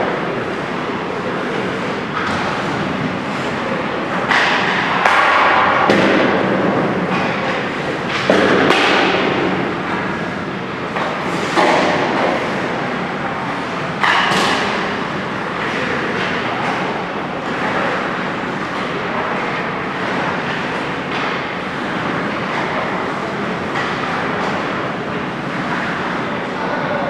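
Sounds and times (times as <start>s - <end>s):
hockey sticks striking pucks: 0.0s - 26.6s
pucks hitting the boards: 0.0s - 26.6s.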